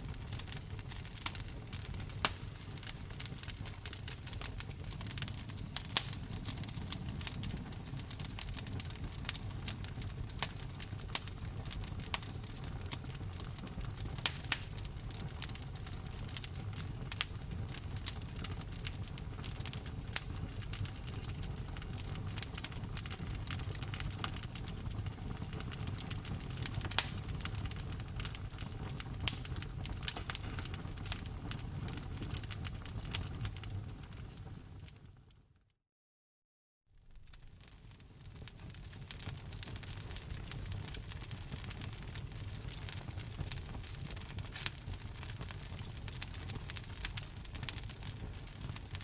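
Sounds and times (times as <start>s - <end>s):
low rumble of burning logs: 0.0s - 35.4s, 37.0s - 49.0s
wood fire crackling: 0.0s - 35.4s, 37.0s - 49.0s.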